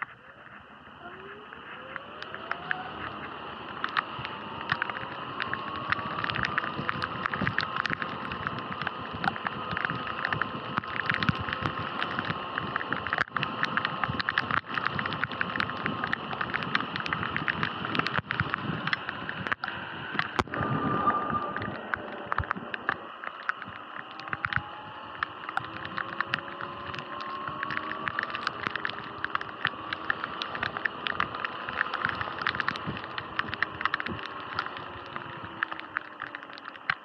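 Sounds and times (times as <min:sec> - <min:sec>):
tyres hissing on wet road: 0:00.3 - 0:37.0
sharp ticks: 0:01.1 - 0:37.0.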